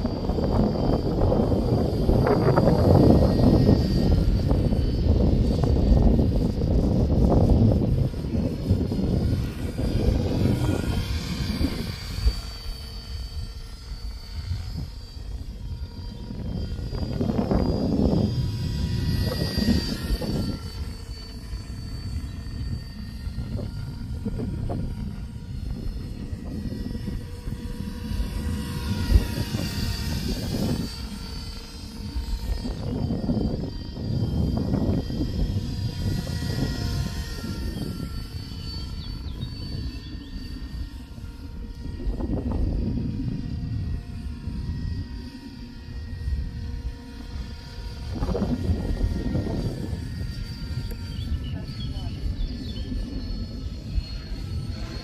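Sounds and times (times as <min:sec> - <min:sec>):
rc helicopter motor whine: 0:00.0 - 0:55.0
wind rumbling on microphone: 0:00.0 - 0:55.0.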